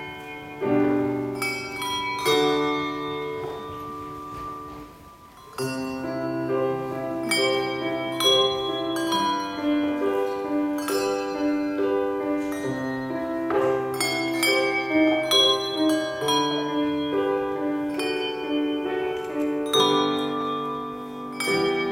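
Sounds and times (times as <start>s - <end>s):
handbell ensemble playing: 0.0s - 21.9s.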